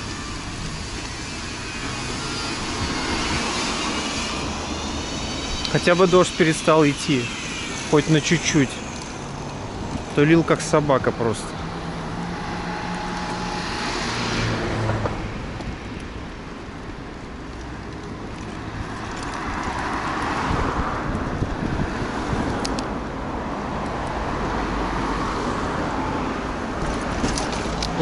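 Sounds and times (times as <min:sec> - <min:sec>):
engine hum: 0:00.0 - 0:28.0
vehicles passing with tyre hiss: 0:00.0 - 0:28.0.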